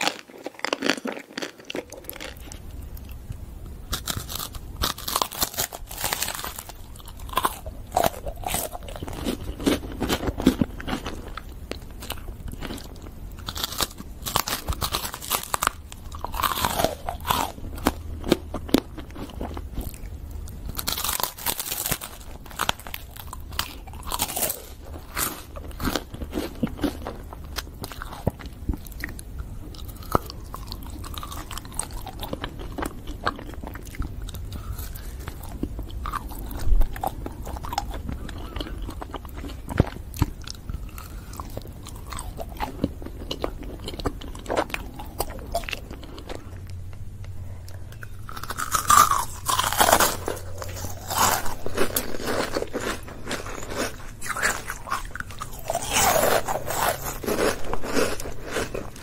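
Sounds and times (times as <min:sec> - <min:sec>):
chocolate shell crunching: 0:00.0 - 0:03.2, 0:03.9 - 0:46.7, 0:47.7 - 0:59.0.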